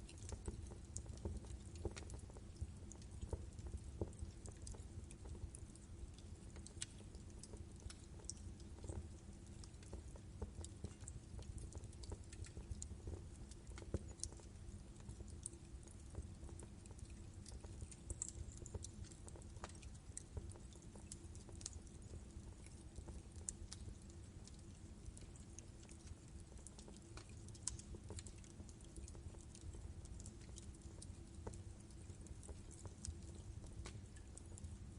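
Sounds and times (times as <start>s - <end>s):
logs crackling and popping: 0.0s - 34.9s
low rumble of flame: 0.0s - 34.9s.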